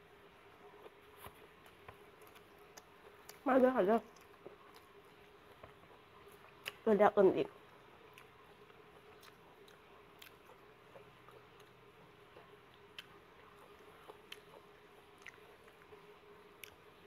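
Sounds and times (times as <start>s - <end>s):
faint steady hum: 0.0s - 17.0s
quiet chewing with mouth clicks: 0.6s - 6.8s, 7.6s - 17.0s.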